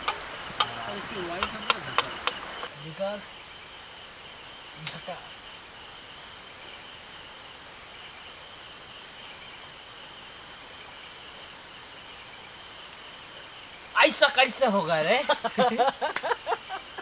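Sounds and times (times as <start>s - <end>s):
crickets trilling: 0.0s - 17.0s
faint high insect chirp: 0.0s - 17.0s.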